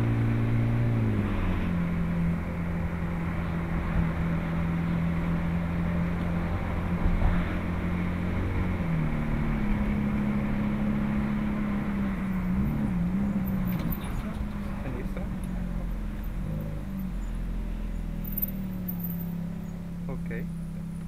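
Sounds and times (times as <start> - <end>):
car engine cruising from cabin: 0.0 - 21.0.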